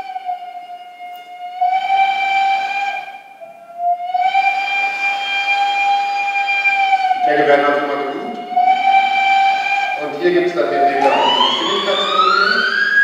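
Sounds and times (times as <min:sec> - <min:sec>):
whistle blasts over loudspeakers: 0:01.0 - 0:13.0.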